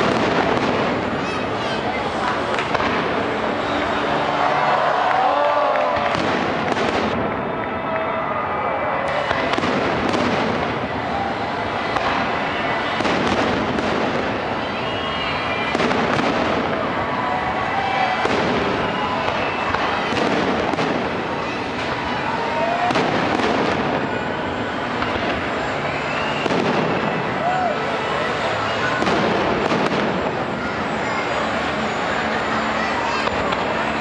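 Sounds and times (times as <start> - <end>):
fireworks bursts and crackles: 0.0 - 34.0.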